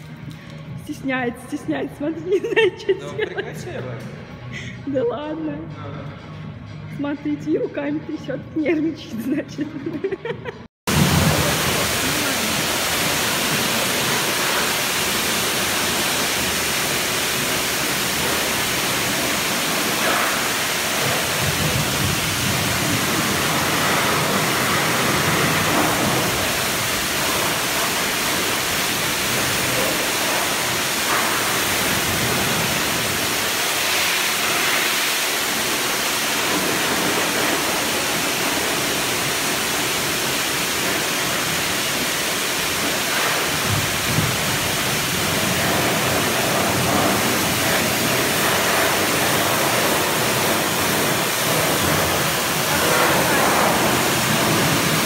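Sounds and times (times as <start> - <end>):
pressure washer spraying car: 10.9 - 55.0.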